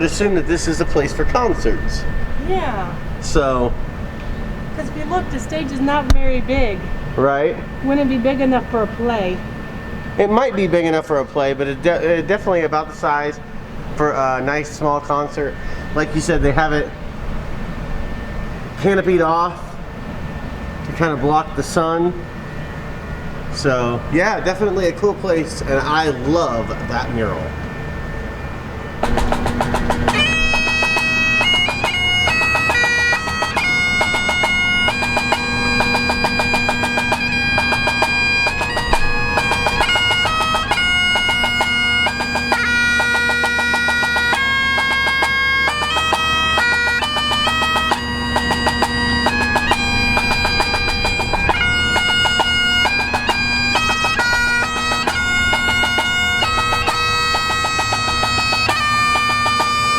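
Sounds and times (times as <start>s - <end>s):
bagpipe drone: 0.0s - 59.9s
bagpipe melody: 0.0s - 59.9s.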